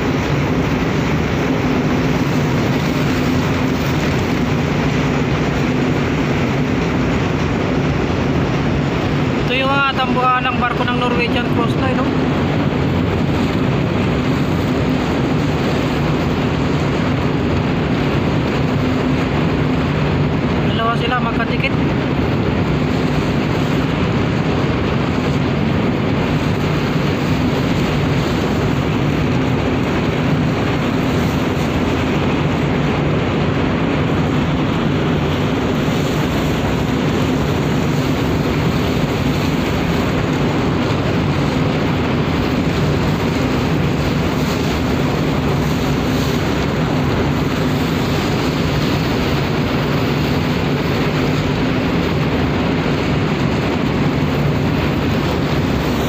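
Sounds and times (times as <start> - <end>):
constant rushing noise: 0.0 - 56.0
low hum: 0.0 - 56.0
ship engine drone: 0.0 - 56.0.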